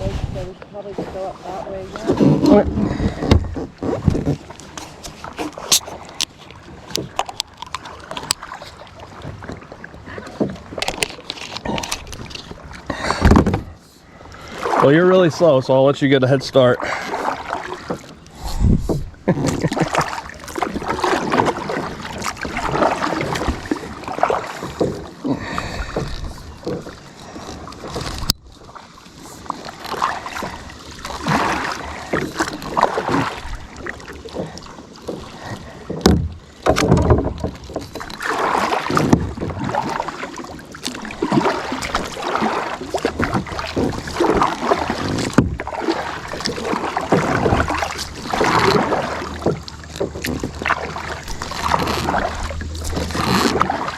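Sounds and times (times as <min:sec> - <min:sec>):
paddle strokes splashing in water: 0:00.0 - 0:53.9.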